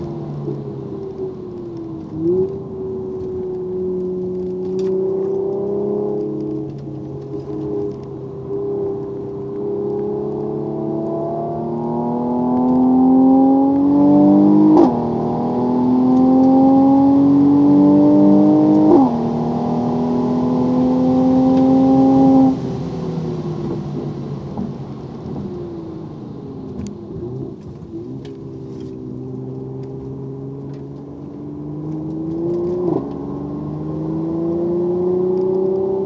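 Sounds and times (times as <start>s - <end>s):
car engine at full throttle: 0.0s - 36.0s.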